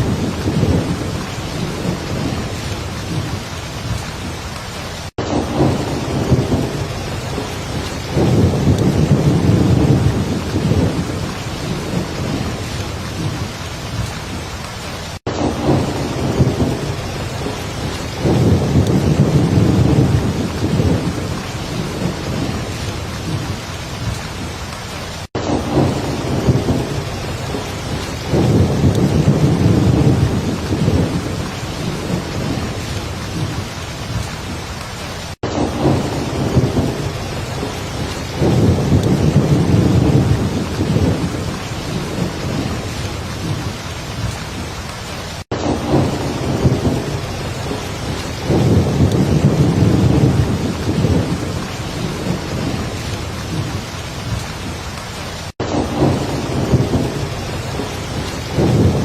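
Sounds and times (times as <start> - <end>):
rolling thunder: 0.0 - 34.6, 35.4 - 55.0, 55.6 - 59.0
heavy rain: 0.0 - 59.0.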